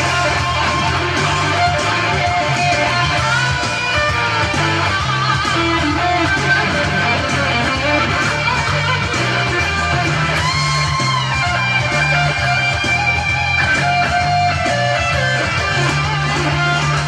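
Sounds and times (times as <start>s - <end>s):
electric guitar lead notes: 0.0s - 17.0s
repeating bass line: 0.0s - 17.0s.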